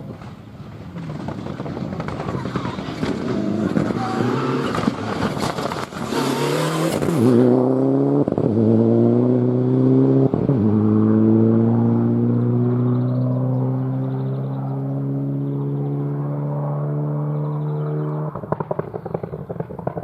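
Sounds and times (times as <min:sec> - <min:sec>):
rally car engine at high revs: 0:01.2 - 0:20.0.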